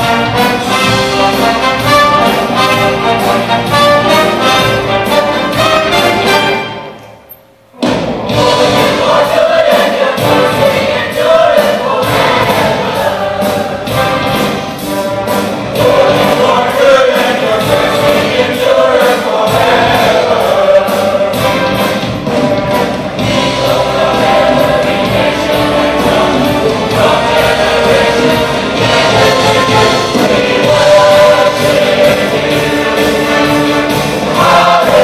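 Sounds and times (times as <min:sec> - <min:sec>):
choir singing: 0:00.0 - 0:07.2, 0:08.2 - 0:35.0
orchestra strings: 0:00.0 - 0:07.2, 0:07.8 - 0:35.0
drums: 0:00.0 - 0:35.0
grand piano: 0:00.0 - 0:35.0.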